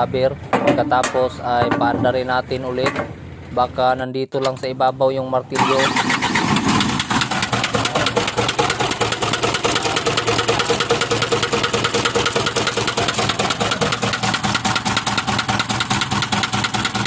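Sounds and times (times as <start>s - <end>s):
diesel engine idling with knock: 0.2s - 3.5s, 5.6s - 17.0s.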